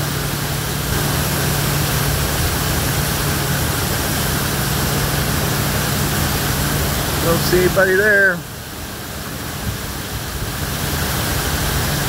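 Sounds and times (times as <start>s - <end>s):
low machine hum: 0.0s - 12.0s
rain hissing: 0.0s - 12.0s.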